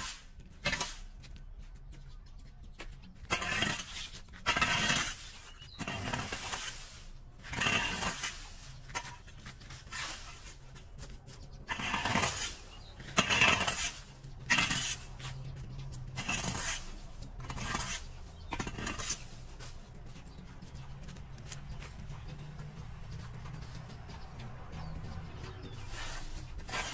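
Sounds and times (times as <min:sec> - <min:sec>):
rake scraping concrete and leaves: 0:00.0 - 0:01.5, 0:02.8 - 0:26.9.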